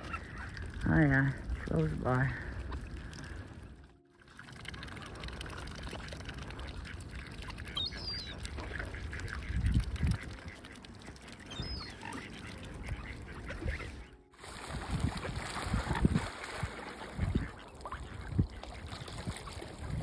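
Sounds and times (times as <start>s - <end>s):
clicks of ducks dabbling: 0.0s - 20.0s.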